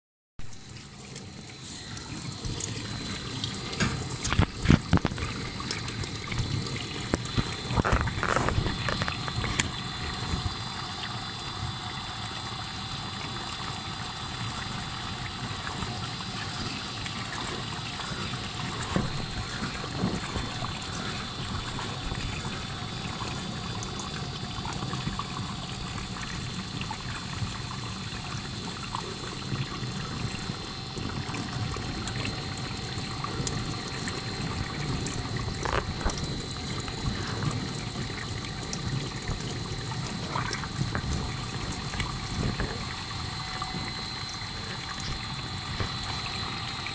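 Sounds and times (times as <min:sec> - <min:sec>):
dishwasher low hum: 0:00.5 - 0:46.9
water trickling in dishwasher: 0:00.5 - 0:46.9.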